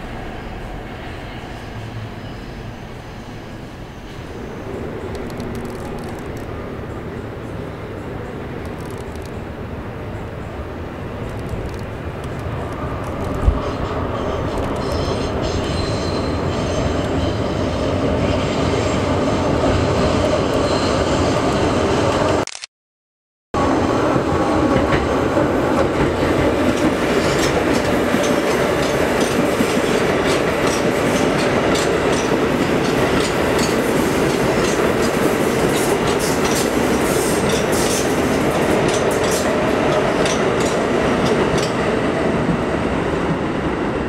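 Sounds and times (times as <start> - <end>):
train rumbling on steel viaduct: 0.0 - 22.4, 23.6 - 44.0.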